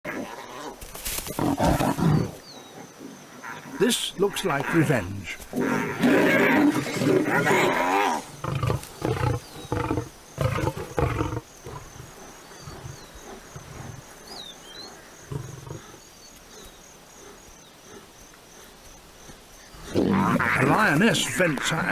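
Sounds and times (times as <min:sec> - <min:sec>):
lions snarling: 0:00.1 - 0:03.9, 0:05.5 - 0:18.9, 0:19.7 - 0:21.9.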